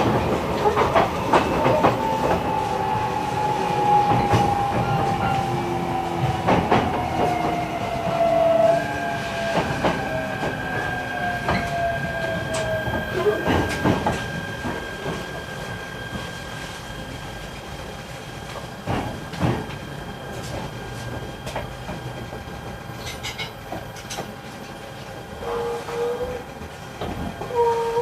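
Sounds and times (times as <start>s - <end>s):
train low rumble: 0.0s - 28.0s.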